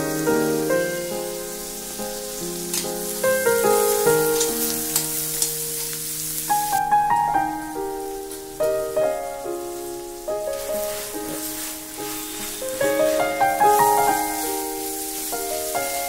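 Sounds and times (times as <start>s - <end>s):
background music with melody: 0.0s - 16.0s
leaves sizzling in hot oil: 0.0s - 16.0s.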